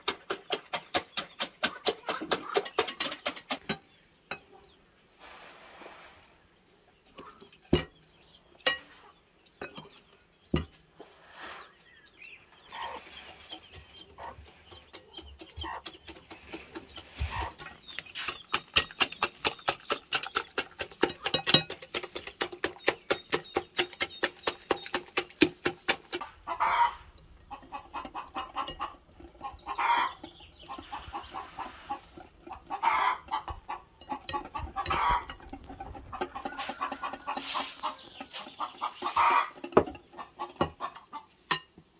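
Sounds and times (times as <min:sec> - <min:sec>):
chickens clucking: 0:00.0 - 0:05.0, 0:06.7 - 0:41.9.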